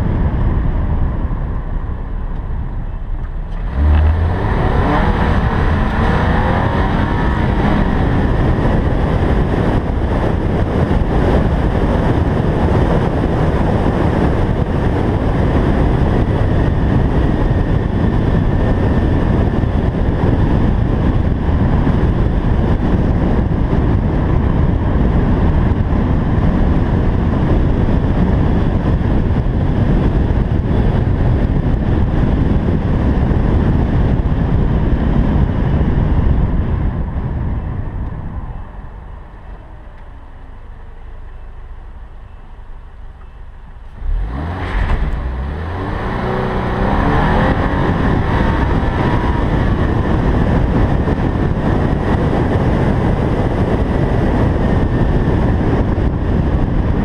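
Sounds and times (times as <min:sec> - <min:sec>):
car engine revving: 0:00.0 - 0:54.0
road noise: 0:00.0 - 0:57.0.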